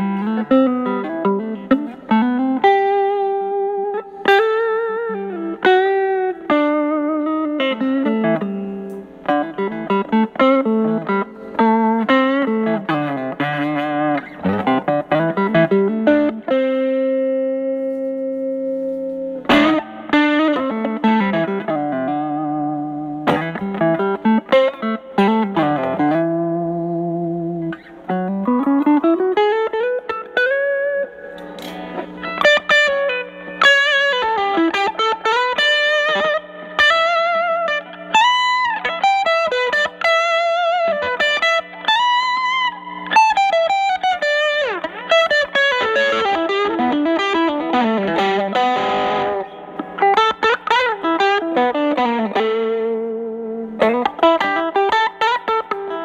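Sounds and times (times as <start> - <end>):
overdriven electric guitar blues lead: 0.0 - 56.0.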